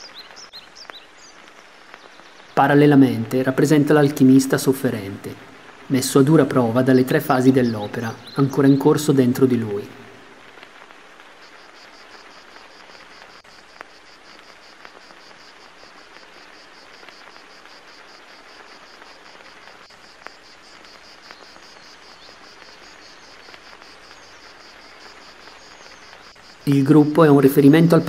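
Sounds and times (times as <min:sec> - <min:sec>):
cricket chirping: 0:00.0 - 0:28.0
steady hiss: 0:00.0 - 0:28.0.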